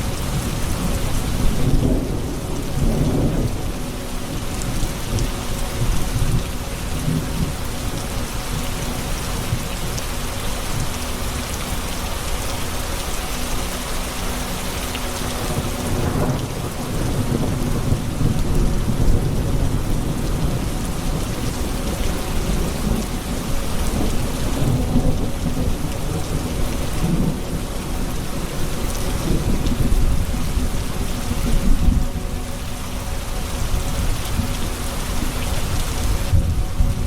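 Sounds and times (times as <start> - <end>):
thunder rumbling: 0.0 - 10.0, 15.3 - 37.0
heavy rain falling: 0.0 - 37.0.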